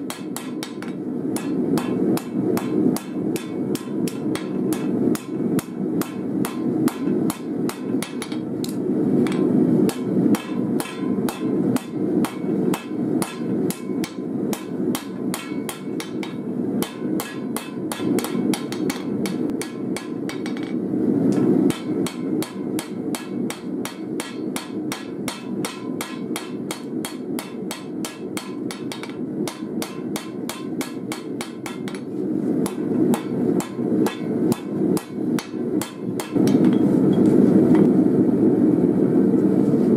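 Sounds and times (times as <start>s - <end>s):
hammer striking blade on anvil: 0.1s - 20.8s, 21.7s - 37.2s.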